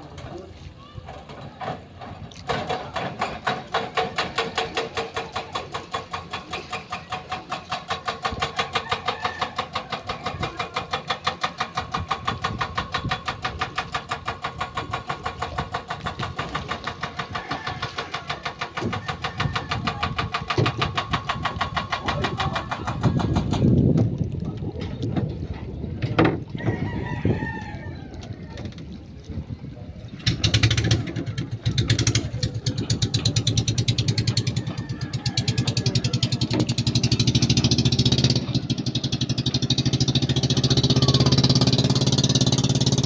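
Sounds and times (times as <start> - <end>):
engine running with pulsing beat: 2.0 - 24.7, 30.2 - 43.0.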